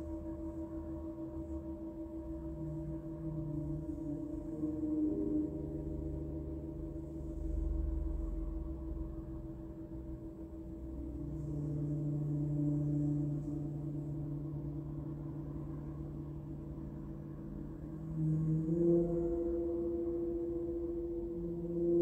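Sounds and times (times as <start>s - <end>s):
gongs and singing bowls ringing: 0.0s - 22.0s.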